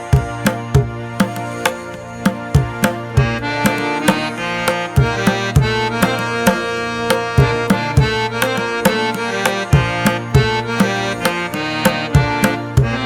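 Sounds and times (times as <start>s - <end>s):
rhythmic drum pattern: 0.0s - 13.0s.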